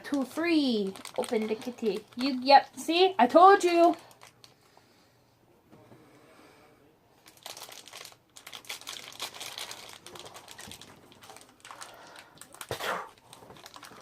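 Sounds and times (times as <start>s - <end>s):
packaging crinkling: 0.0s - 4.7s, 7.2s - 14.0s.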